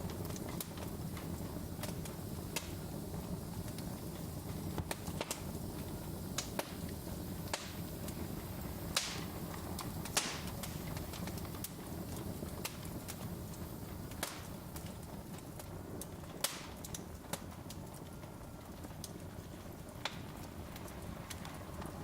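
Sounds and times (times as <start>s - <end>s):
sharp snaps and pops of fire: 0.0s - 22.0s
wood fire crackling: 0.0s - 22.0s.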